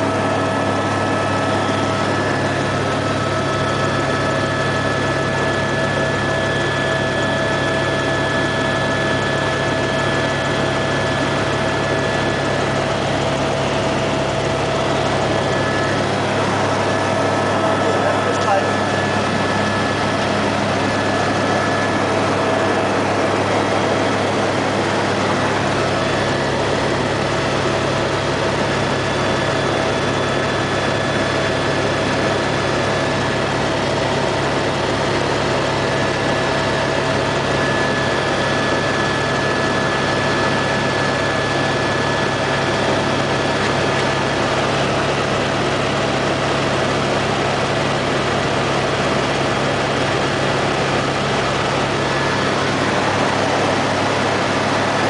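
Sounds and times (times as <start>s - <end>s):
helicopter drone from cabin: 0.0s - 55.0s.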